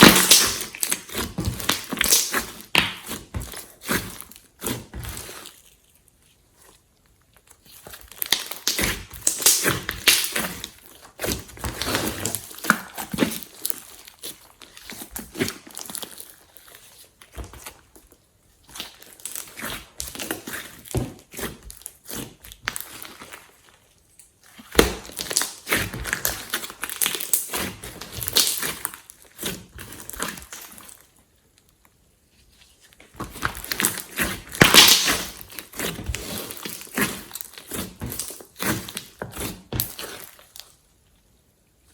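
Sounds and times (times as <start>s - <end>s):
hands squishing crackling slime: 0.0s - 31.2s, 32.5s - 40.8s.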